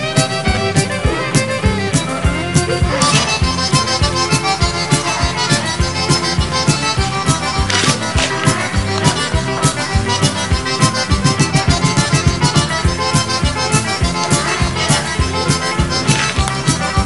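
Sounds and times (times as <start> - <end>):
accordion playing over a beat: 0.0 - 17.0.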